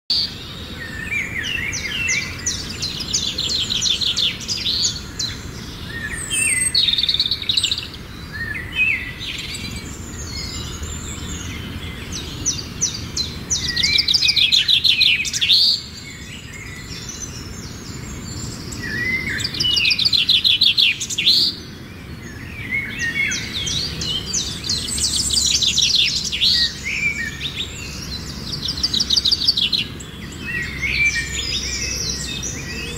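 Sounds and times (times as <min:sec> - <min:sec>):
songbird trilling and whistling: 0:00.1 - 0:32.9.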